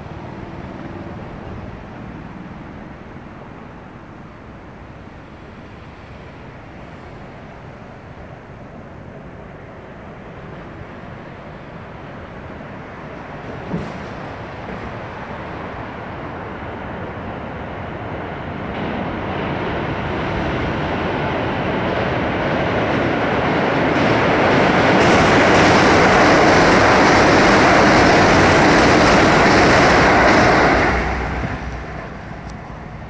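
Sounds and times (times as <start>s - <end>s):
electric train crossing steel bridge: 0.0s - 33.0s.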